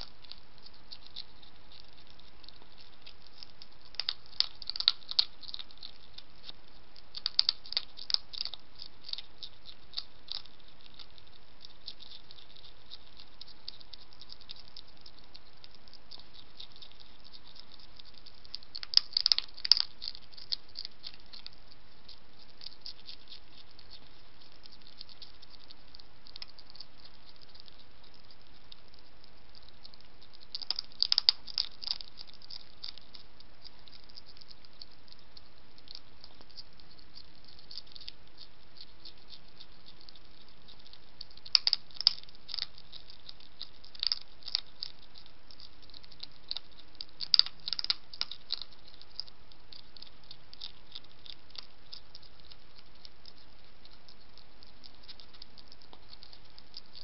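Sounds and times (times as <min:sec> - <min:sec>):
hedgehog crunching kibble: 0:00.0 - 0:57.0.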